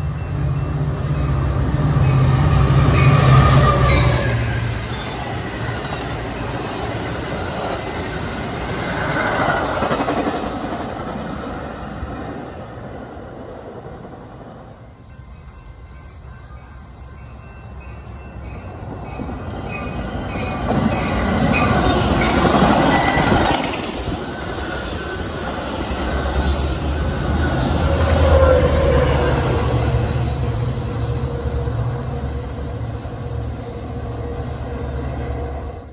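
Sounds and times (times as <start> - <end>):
train wheels on rails: 0.0 - 35.8.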